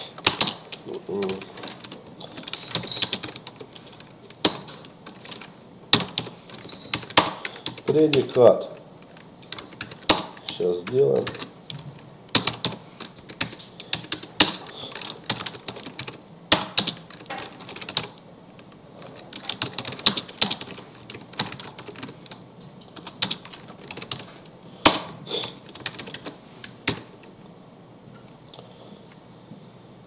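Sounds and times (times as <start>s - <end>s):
typing on keyboard: 0.2s - 18.2s, 19.0s - 24.3s, 24.9s - 27.2s.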